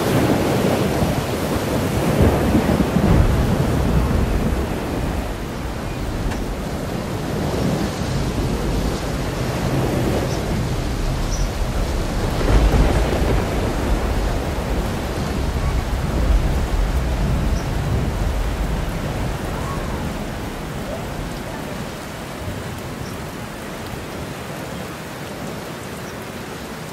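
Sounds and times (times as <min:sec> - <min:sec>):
low thunder rumbling: 0:00.0 - 0:24.4
steady rushing noise: 0:00.0 - 0:24.4.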